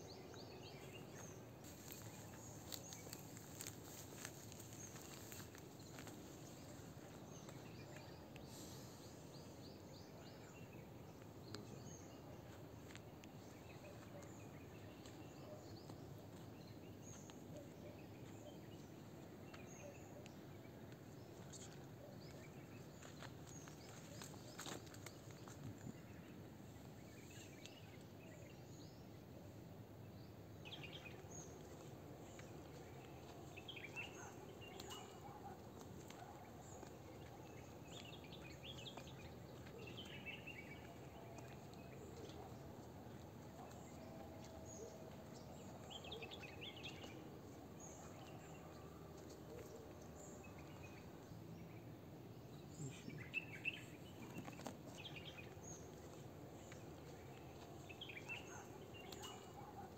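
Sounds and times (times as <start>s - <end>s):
small birds chirping: 0.0s - 29.3s, 30.1s - 59.9s
outdoor background noise: 0.0s - 59.9s.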